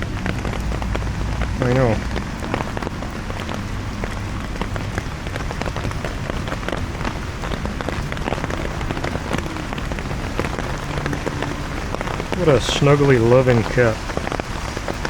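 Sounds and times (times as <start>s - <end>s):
heavy rain on an umbrella: 0.0s - 15.0s.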